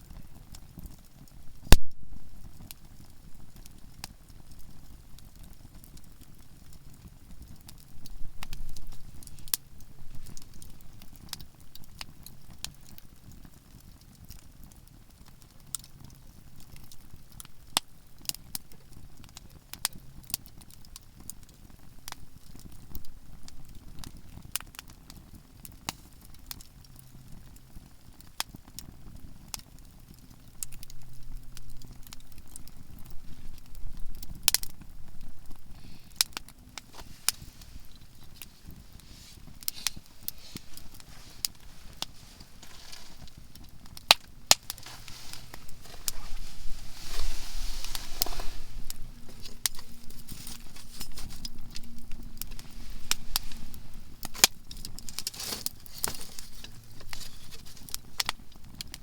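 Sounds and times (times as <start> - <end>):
campfire crackling: 0.0 - 59.0
low rumble of flames: 0.0 - 59.0.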